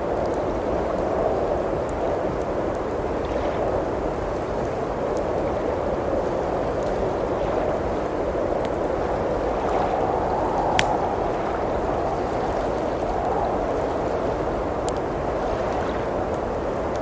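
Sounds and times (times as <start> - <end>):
blizzard wind rushing: 0.0 - 17.0
wood fire crackling: 0.0 - 17.0.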